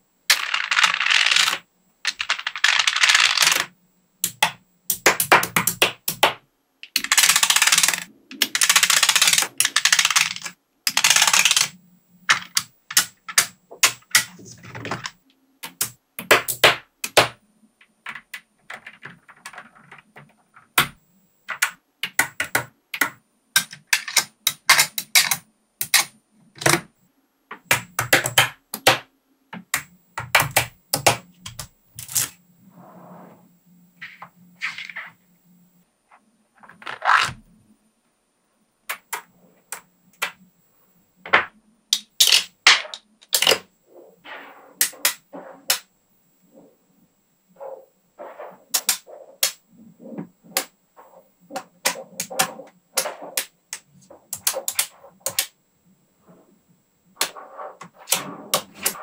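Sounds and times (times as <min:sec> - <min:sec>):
magnetic balls clicking: 0:00.3 - 0:32.4, 0:38.9 - 0:40.5, 0:41.2 - 0:44.0, 0:44.7 - 0:46.8, 0:47.5 - 0:55.6, 0:57.0 - 0:59.0.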